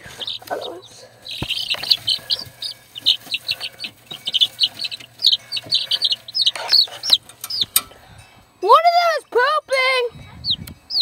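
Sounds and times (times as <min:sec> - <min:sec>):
baby chicks peeping: 0:00.0 - 0:11.0.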